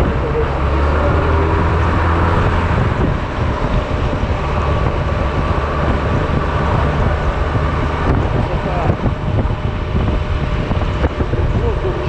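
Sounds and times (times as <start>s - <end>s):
road and wind noise: 0.0s - 12.0s
scooter engine drone: 0.0s - 12.0s.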